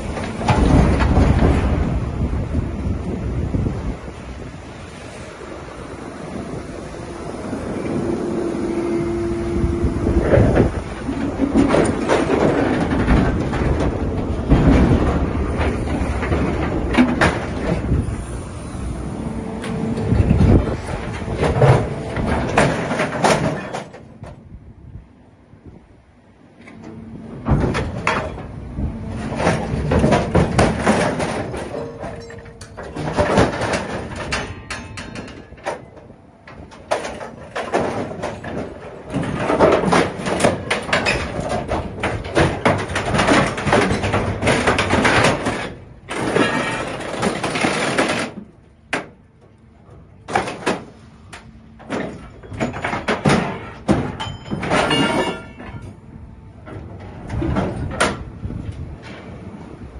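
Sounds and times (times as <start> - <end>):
metal creaking and crunching: 0.0 - 24.6, 26.6 - 59.9.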